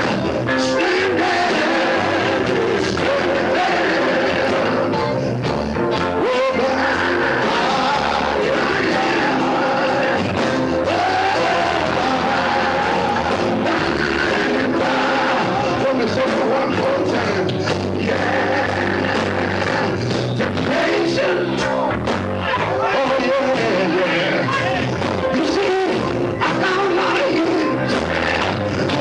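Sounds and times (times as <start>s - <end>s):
person singing into a microphone: 0.0s - 5.1s, 6.0s - 29.0s
backing voices: 0.0s - 29.0s
electric guitar: 0.0s - 29.0s.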